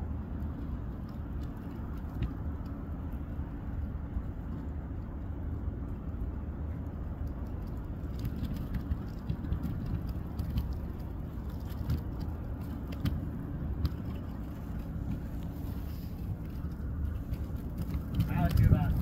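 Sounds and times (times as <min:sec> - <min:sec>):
ship low rumble: 0:00.0 - 0:19.0.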